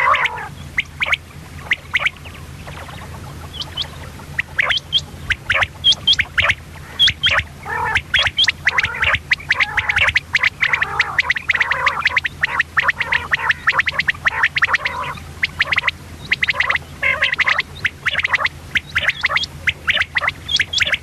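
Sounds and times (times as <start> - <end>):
quail calling sharp chirps: 0.0 - 21.0
steady low hum: 0.0 - 21.0.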